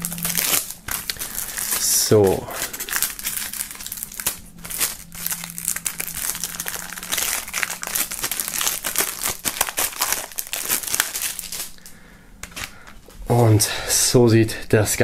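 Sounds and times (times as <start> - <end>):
plastic film crinkling: 0.0 - 13.2.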